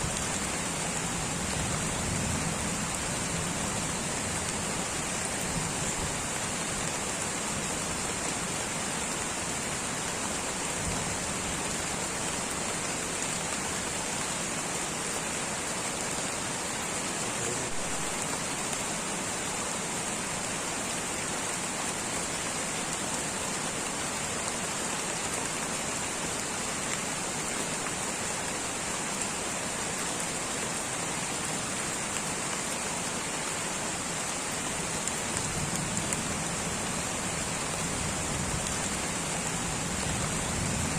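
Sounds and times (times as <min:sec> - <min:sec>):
light rain hiss: 0:00.0 - 0:40.9.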